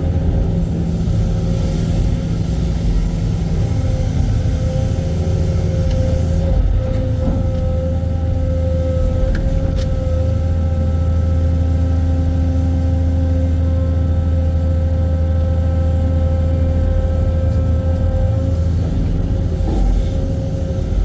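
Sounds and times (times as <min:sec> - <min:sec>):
excavator engine droning: 0:00.0 - 0:21.0.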